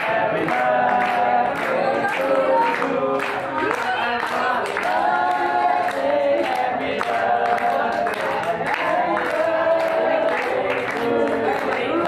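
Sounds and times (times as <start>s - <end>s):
group singing a birthday song: 0.0s - 12.0s
people clapping in time: 0.0s - 12.0s.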